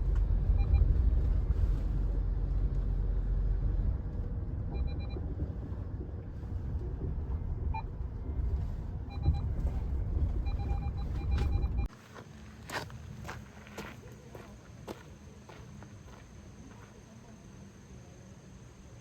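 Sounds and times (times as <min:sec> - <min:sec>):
vehicle engine rumbling: 0:00.0 - 0:17.2.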